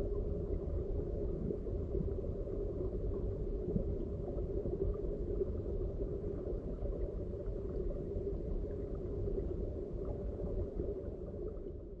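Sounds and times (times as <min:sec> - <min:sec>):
muffled underwater stream rumble: 0:00.0 - 0:12.0.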